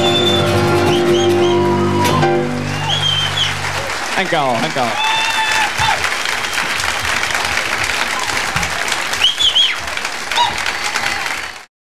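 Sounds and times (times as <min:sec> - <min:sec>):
audience applauding: 0:00.0 - 0:11.7
high cheers: 0:00.0 - 0:11.7.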